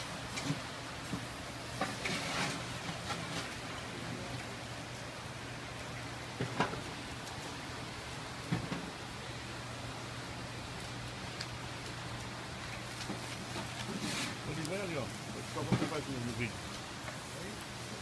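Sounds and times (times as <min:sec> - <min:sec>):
fat sizzling on embers: 0:00.0 - 0:18.0
fire pops and crackles: 0:00.0 - 0:18.0.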